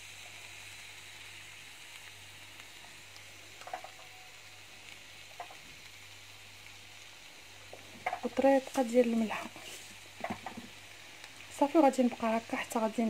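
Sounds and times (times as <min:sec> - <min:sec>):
squid sizzling in a pan: 0:00.0 - 0:13.0.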